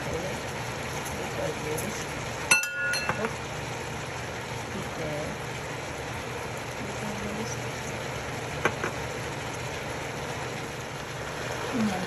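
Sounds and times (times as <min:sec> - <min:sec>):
stew sizzling in a pot: 0:00.0 - 0:12.0.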